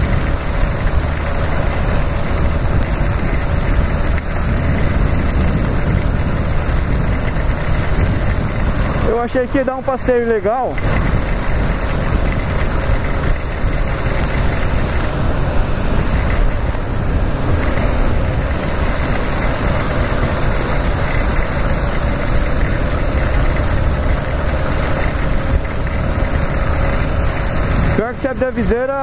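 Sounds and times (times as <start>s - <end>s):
wind rushing: 0.0s - 28.2s
motorcycle engine running: 0.0s - 29.0s
tyre spray on wet road: 0.0s - 29.0s.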